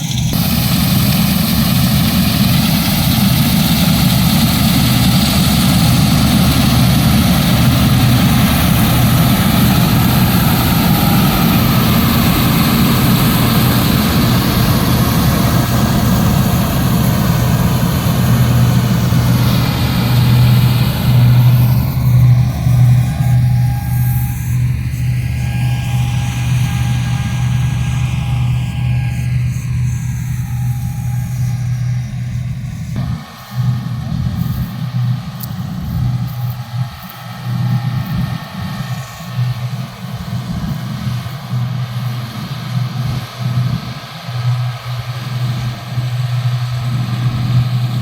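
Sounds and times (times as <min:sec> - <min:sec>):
engine low hum: 0:00.0 - 0:48.0
rushing mechanical noise: 0:00.0 - 0:48.0.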